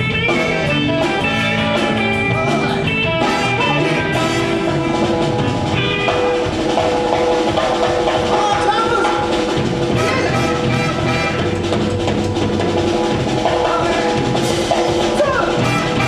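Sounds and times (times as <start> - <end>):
drum kit keeping time: 0.0 - 16.0
held instrument lines and bass: 0.0 - 16.0.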